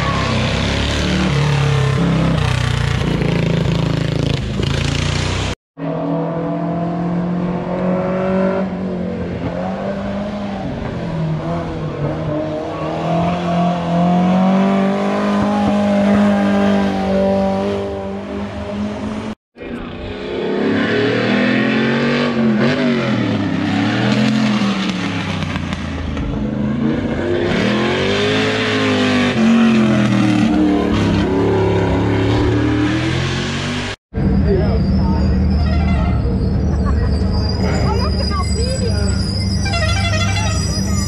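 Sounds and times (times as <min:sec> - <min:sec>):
racing car engines at full throttle: 0:00.0 - 0:35.5.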